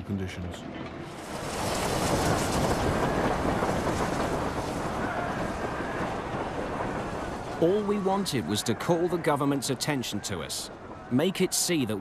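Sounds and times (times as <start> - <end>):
steam train wheels rumbling: 0.9 - 12.0.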